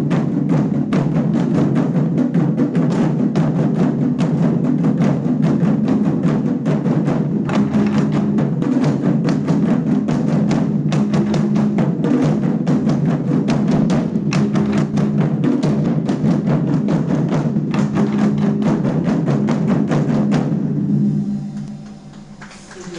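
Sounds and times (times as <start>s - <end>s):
group drumming: 0.0s - 22.9s.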